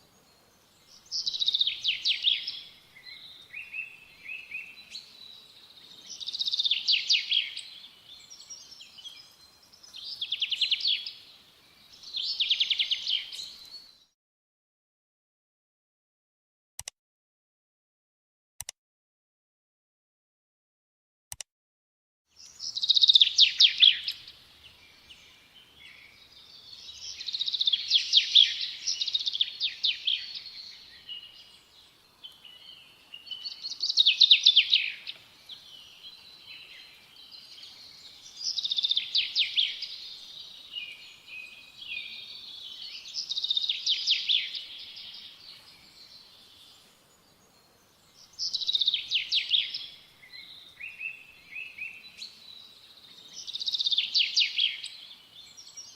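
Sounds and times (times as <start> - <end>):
songbird singing: 0.0 - 14.2, 22.3 - 55.9.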